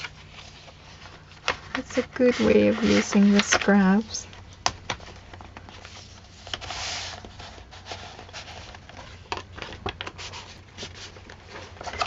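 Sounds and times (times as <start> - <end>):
paper sliding rustle: 0.0 - 4.1, 5.2 - 12.0
journal pages turning: 0.0 - 12.0.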